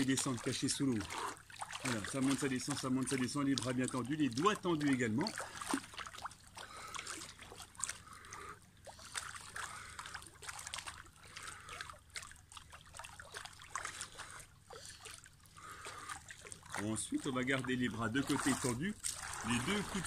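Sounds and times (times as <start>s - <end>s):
pool water splashing: 0.0s - 20.0s.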